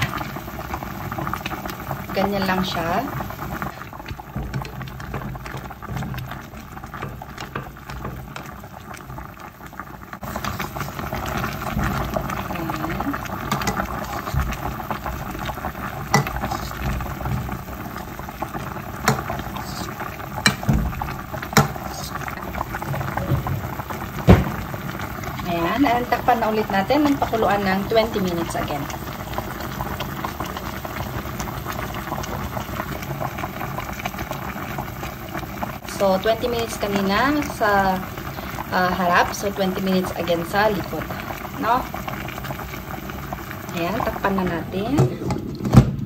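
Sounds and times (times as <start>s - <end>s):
broth bubbling at a boil: 0.0s - 46.0s.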